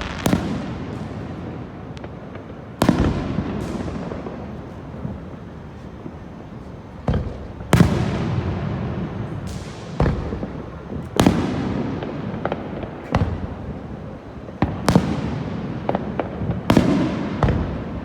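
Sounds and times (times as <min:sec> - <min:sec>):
fireworks bangs with echo: 0:00.0 - 0:18.0
small firework cracks: 0:00.0 - 0:18.0.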